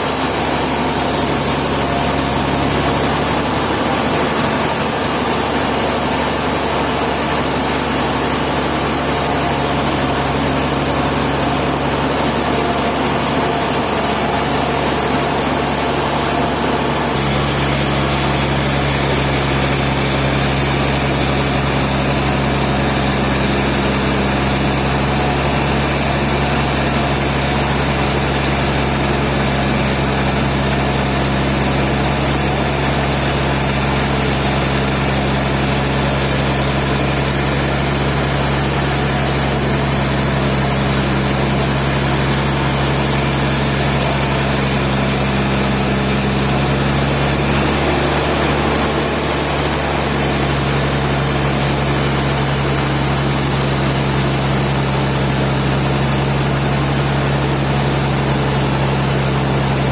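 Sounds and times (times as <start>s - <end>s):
sawmill machinery hum: 0.0s - 59.9s.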